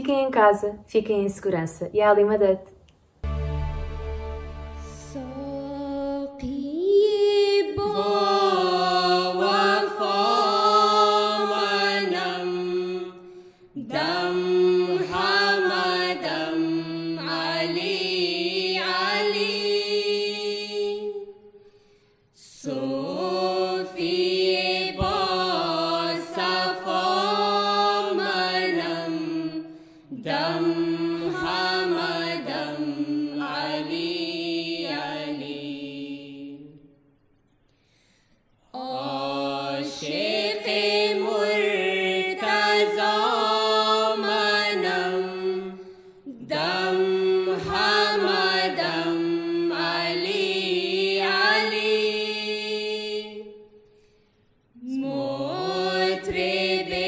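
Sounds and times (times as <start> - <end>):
devotional vocal chant: 4.2 - 37.1, 38.2 - 57.0.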